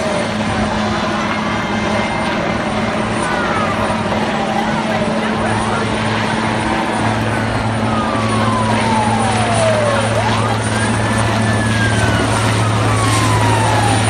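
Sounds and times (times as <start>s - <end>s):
helicopter drone: 0.0s - 14.0s
sliding wailing tone: 0.0s - 14.0s.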